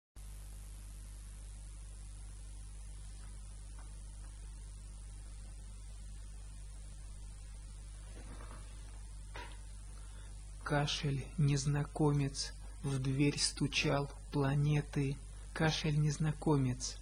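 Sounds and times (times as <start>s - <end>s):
background hiss: 0.2s - 17.0s
electrical mains hum: 0.2s - 17.0s.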